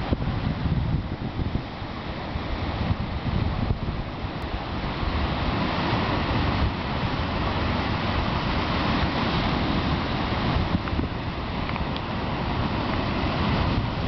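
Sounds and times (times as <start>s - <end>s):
ocean surf on rocks: 0.0s - 14.0s
wind buffeting microphone: 0.0s - 14.0s.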